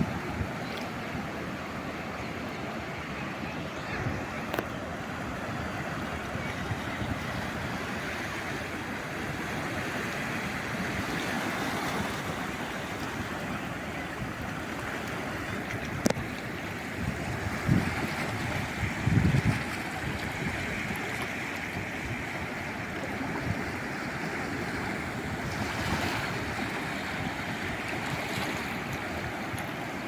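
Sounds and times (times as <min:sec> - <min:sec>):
sea waves washing on shore: 0:00.0 - 0:30.0.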